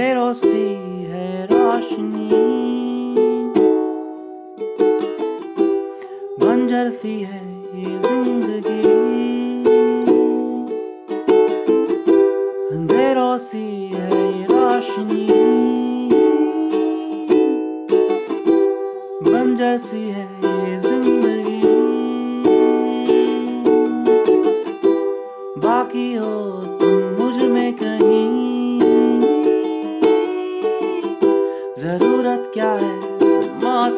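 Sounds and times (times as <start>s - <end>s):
person singing wordless notes: 0.0s - 11.2s, 12.0s - 33.9s
ukulele strumming: 0.0s - 33.9s.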